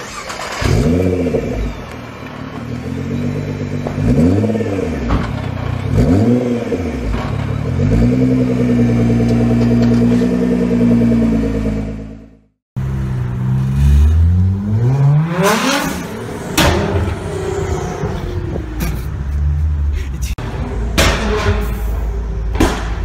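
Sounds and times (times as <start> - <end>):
car engine revving: 0.0 - 21.4.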